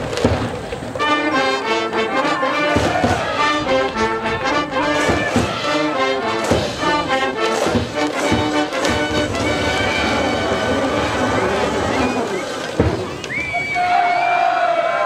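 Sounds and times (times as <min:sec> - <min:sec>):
percussive beats: 0:00.0 - 0:13.2
brass band playing: 0:00.8 - 0:13.2.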